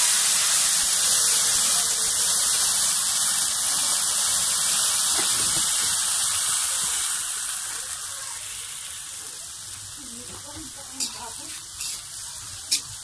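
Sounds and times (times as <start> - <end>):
wok hissing and sizzling: 0.0 - 13.0.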